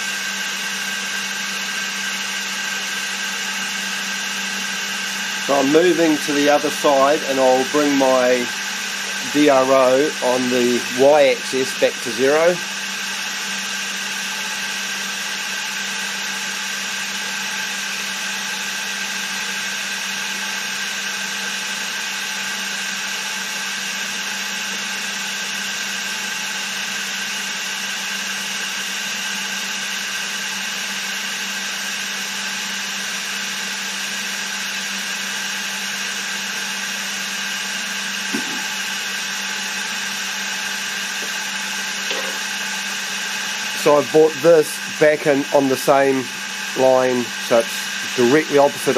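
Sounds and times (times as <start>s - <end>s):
milling machine spindle whine: 0.0s - 48.9s.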